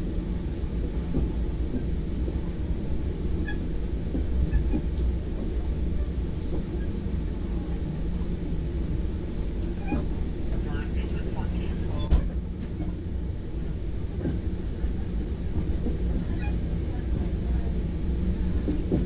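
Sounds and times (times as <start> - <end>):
train car rumbling on track: 0.0 - 19.0.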